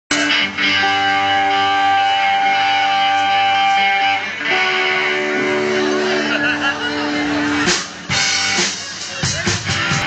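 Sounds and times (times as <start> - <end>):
electric guitar chords ringing: 0.1 - 10.0.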